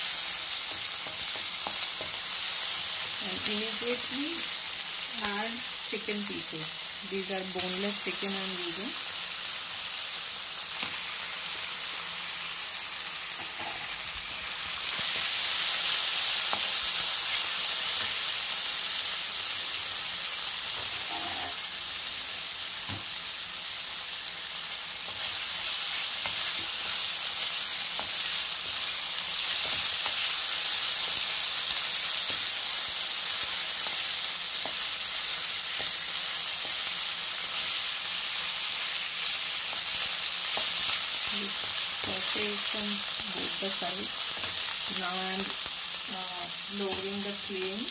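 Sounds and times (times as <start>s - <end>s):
chicken sizzling in hot oil: 0.0s - 47.9s.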